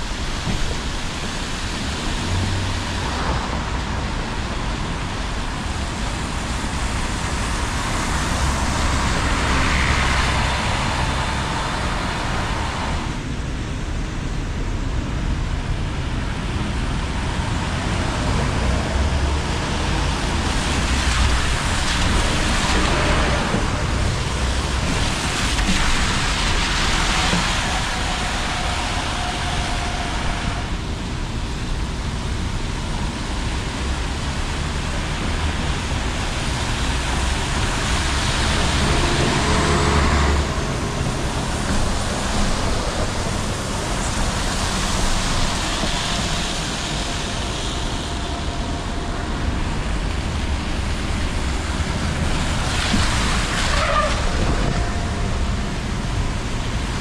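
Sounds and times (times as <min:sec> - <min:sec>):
faint vehicle whine: 0:00.0 - 0:57.0
vehicles passing on wet road: 0:00.0 - 0:57.0.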